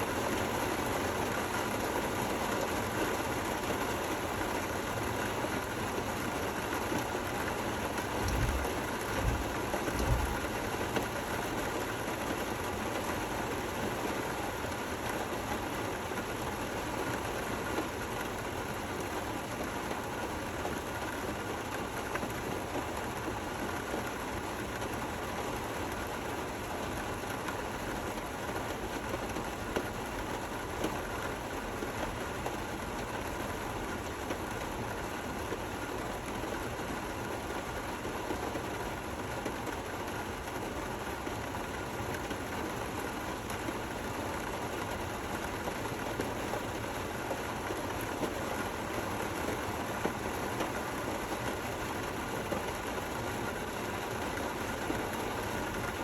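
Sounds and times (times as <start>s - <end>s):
gentle rain: 0.0s - 56.0s.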